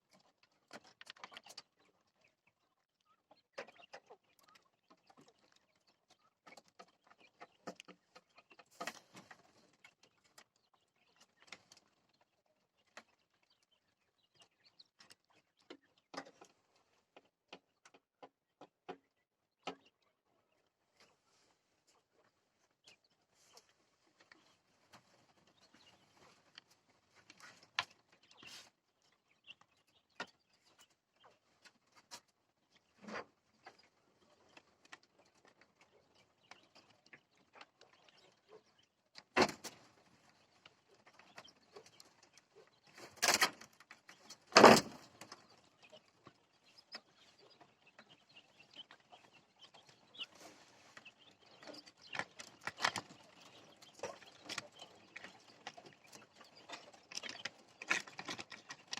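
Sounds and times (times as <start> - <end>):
quail taps and scratches in cage: 0.0 - 58.9.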